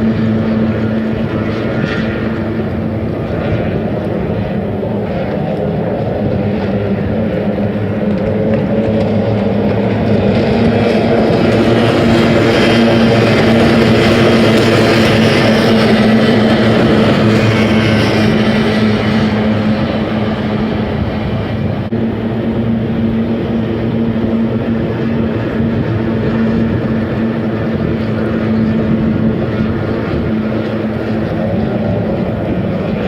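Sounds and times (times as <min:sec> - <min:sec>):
racing boat outboard engines: 0:00.0 - 0:33.0.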